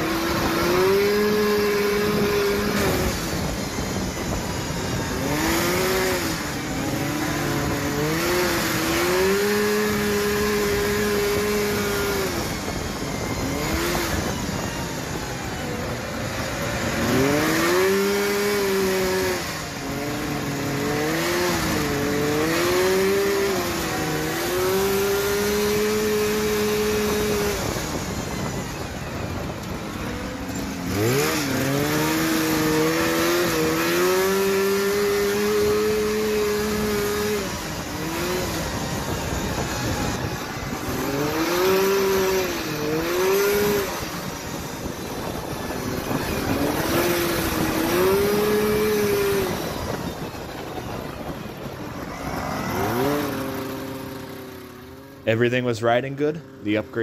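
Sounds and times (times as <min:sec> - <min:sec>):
off-road vehicle engines revving: 0:00.0 - 0:57.0
rushing wind: 0:00.0 - 0:57.0.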